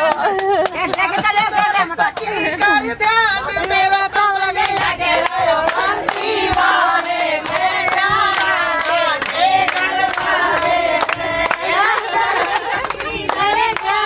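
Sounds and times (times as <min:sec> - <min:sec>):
rhythmic hand-clapping: 0:00.0 - 0:14.0
women singing together: 0:00.0 - 0:14.0.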